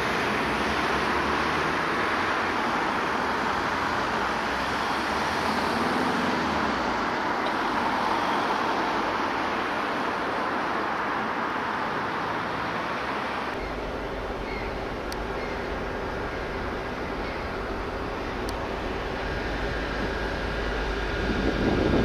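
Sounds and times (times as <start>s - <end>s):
distant vehicles rushing: 0.0s - 22.0s.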